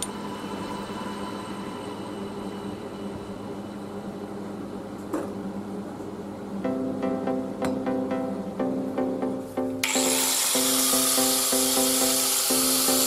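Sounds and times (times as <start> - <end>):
electrical hum of equipment: 0.0 - 13.0.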